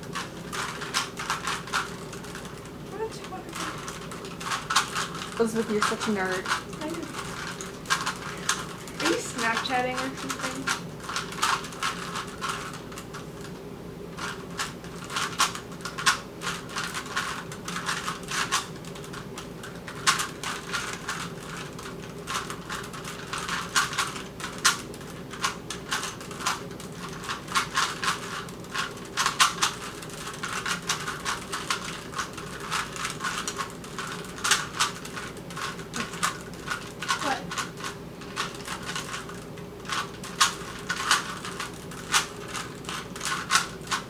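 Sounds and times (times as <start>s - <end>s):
puzzle cube plastic clicks: 0.0s - 13.6s, 14.2s - 44.0s
faint steady hum: 0.0s - 44.0s.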